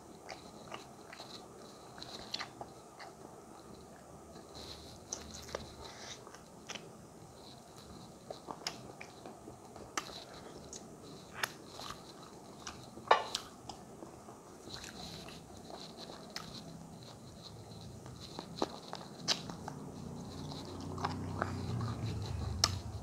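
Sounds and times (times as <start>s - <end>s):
person chewing: 0.2s - 23.0s.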